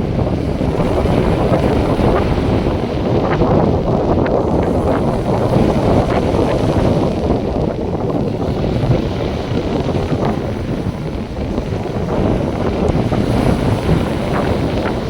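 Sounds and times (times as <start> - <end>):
surf washing: 0.0 - 15.0
wind buffeting microphone: 0.0 - 15.0.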